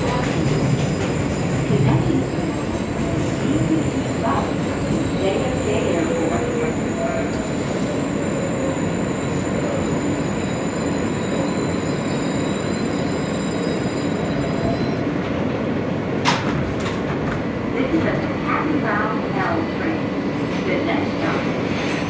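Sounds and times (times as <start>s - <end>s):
subway train rumble with high whine: 0.0s - 22.0s.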